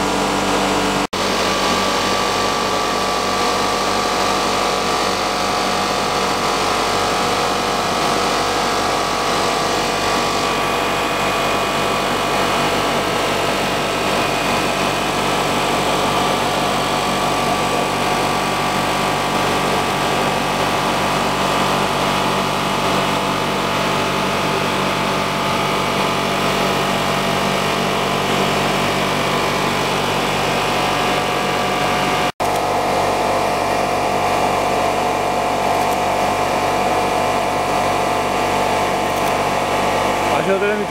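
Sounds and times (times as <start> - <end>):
extrusion machine droning: 0.0 - 40.9.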